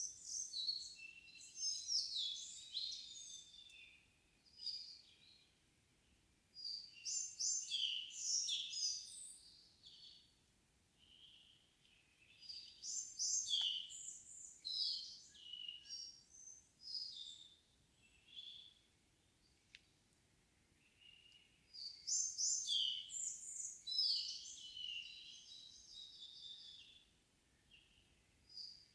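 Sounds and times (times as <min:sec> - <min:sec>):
songbird singing: 0:00.0 - 0:10.4, 0:11.0 - 0:20.0, 0:20.6 - 0:28.9.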